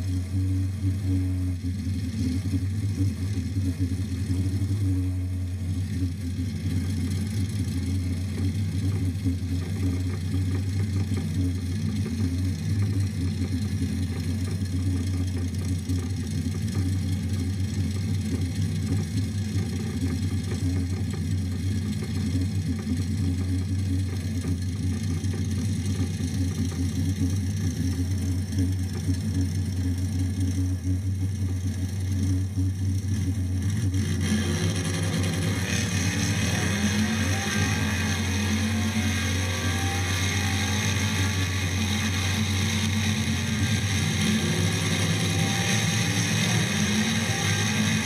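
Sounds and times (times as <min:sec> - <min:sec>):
car engine idling: 0:00.0 - 0:48.0
wavering engine sound: 0:00.0 - 0:48.0.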